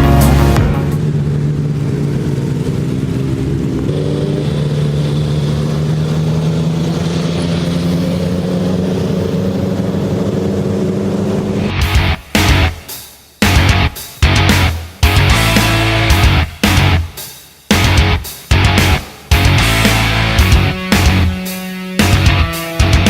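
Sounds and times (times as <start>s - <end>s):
motorcycle engine running: 0.0s - 12.8s, 13.4s - 21.4s, 22.0s - 23.0s.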